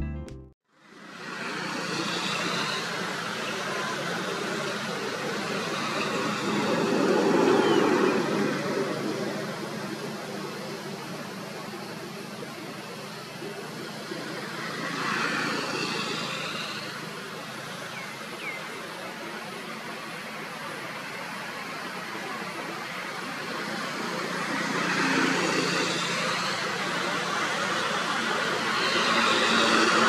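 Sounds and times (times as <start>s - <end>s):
traffic noise: 0.7s - 30.0s.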